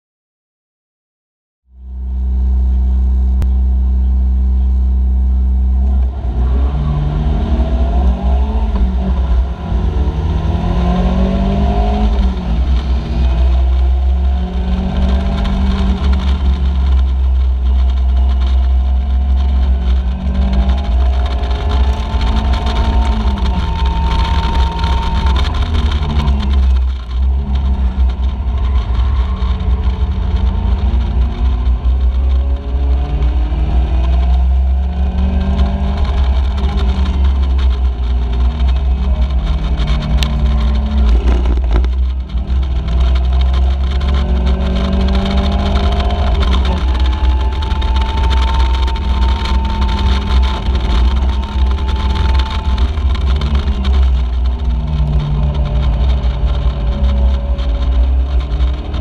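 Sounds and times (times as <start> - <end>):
other cars' engines: 1.7 - 59.0
race car engine accelerating: 1.8 - 59.0.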